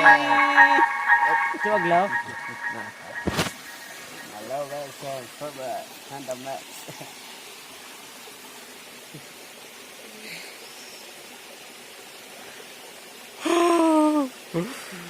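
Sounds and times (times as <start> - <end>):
steady hiss: 0.7 - 15.0.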